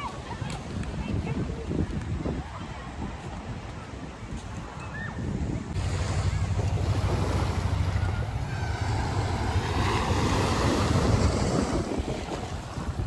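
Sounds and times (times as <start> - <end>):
small waves breaking on shore: 0.0 - 13.0
wind buffeting microphone: 0.0 - 13.0.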